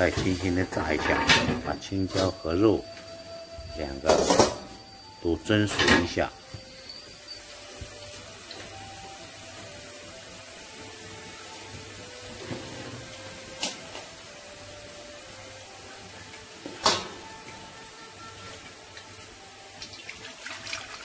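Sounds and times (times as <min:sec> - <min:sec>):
thin high whine: 0:00.0 - 0:21.0
wok stove humming: 0:00.0 - 0:21.0.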